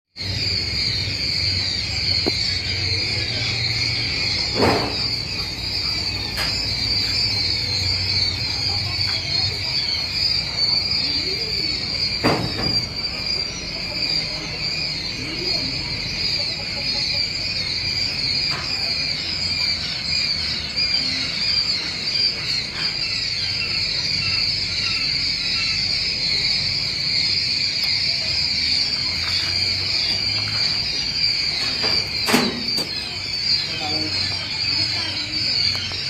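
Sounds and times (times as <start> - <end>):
quail chicks peeping: 0.2 - 36.0.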